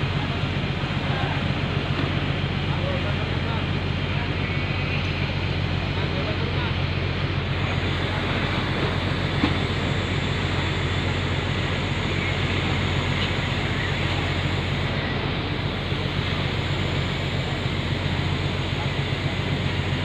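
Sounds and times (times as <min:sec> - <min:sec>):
ferry engines humming: 0:00.0 - 0:20.0
rushing noise: 0:00.0 - 0:20.0.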